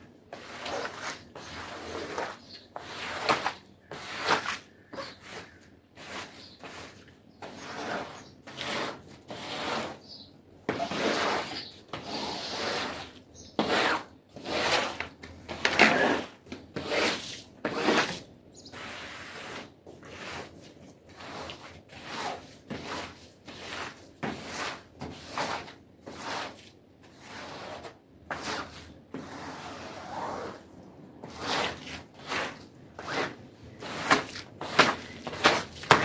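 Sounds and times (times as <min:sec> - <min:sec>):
cleaning tool scraping carpet: 0:00.3 - 0:36.0.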